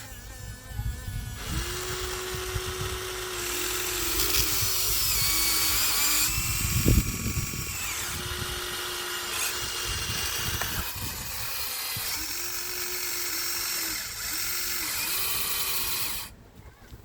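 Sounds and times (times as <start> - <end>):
small electric motors whining: 0.0 - 16.4.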